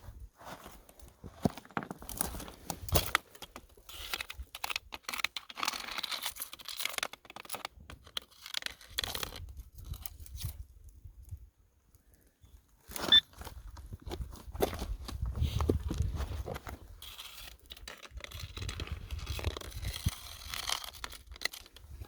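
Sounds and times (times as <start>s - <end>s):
crunching on rocky ground: 0.0s - 11.0s, 12.1s - 22.0s
clicks of rock and gravel: 0.6s - 10.6s, 12.8s - 22.0s.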